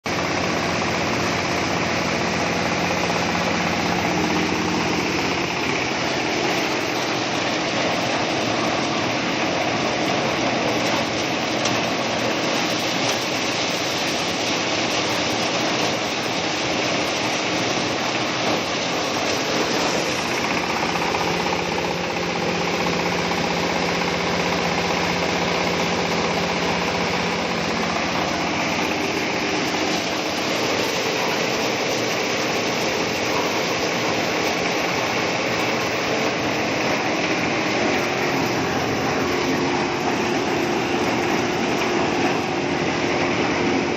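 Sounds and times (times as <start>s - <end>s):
corn sheller running: 0.0s - 43.9s.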